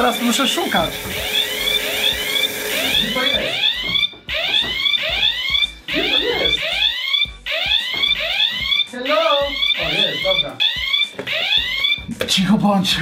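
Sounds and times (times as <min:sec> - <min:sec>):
electronic alarm chirps: 0:00.0 - 0:12.2.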